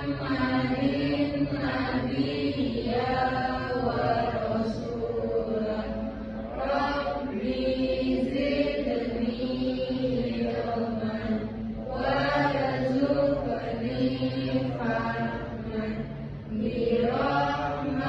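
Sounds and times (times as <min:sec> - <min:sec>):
group chanting a prayer: 0:00.0 - 0:18.0.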